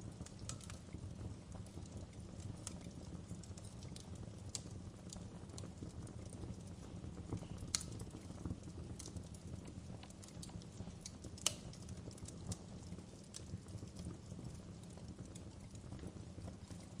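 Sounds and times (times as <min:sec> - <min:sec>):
burning wood popping: 0:00.0 - 0:17.0
fire crackling: 0:00.0 - 0:17.0.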